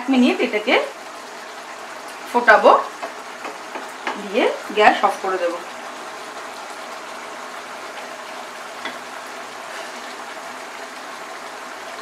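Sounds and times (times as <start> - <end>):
curry bubbling in a pan: 0.1 - 12.0.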